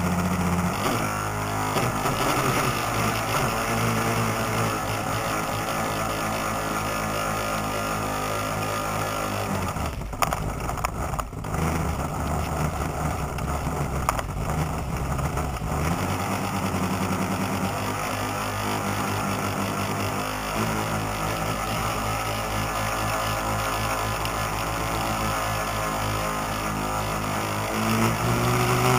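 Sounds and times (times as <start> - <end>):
boat motor running: 0.0 - 28.9.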